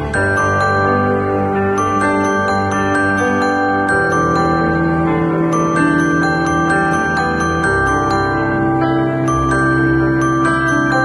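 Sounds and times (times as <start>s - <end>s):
bell-like notes over held tones: 0.0s - 11.0s.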